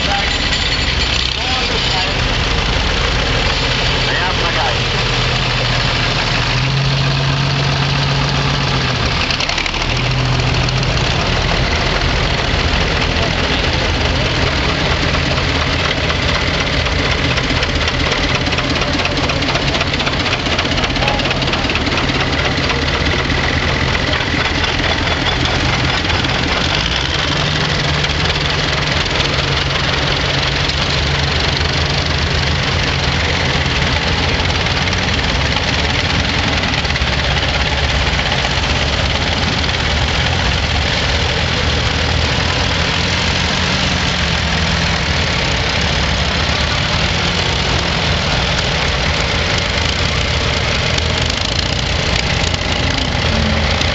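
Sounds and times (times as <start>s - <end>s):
tractor engines running at low revs: 0.0s - 53.9s.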